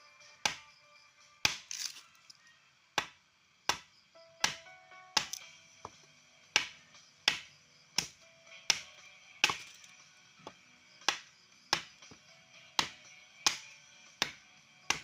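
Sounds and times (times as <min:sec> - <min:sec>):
sharp chopping strikes on wood: 0:00.4 - 0:00.7, 0:01.4 - 0:01.9, 0:03.0 - 0:09.8, 0:10.4 - 0:15.0.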